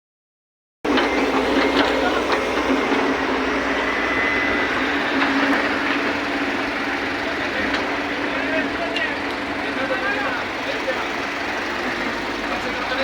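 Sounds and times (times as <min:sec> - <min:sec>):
excavator diesel engine running: 0:00.9 - 0:13.0.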